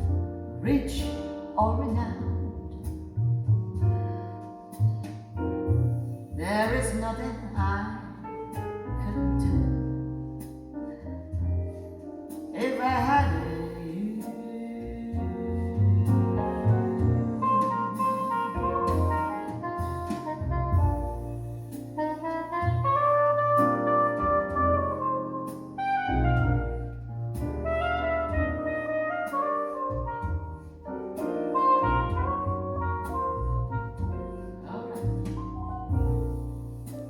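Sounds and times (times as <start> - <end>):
low bass notes: 0.0 - 37.0
piano chords: 0.0 - 37.0.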